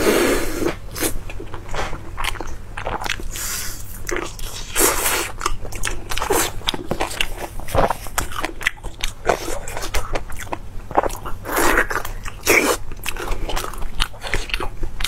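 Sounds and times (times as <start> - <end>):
person chewing meat: 0.6 - 15.0.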